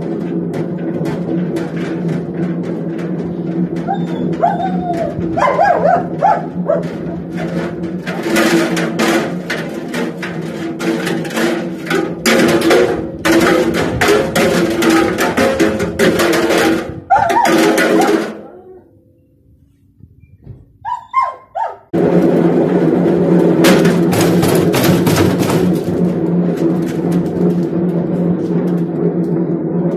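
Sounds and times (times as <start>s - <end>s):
objects banging in drum: 0.0s - 18.7s, 21.9s - 29.9s.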